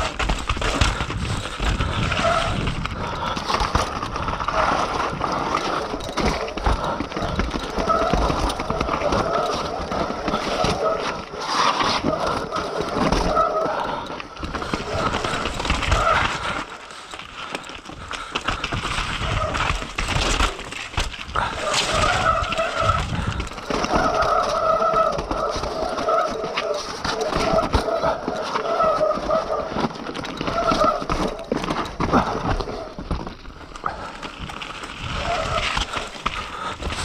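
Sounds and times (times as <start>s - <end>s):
bike rattling over rocks: 0.0s - 37.0s.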